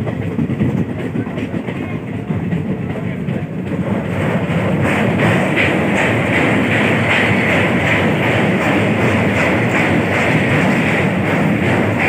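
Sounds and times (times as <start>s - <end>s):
train wheels clattering on rails: 0.0s - 12.0s.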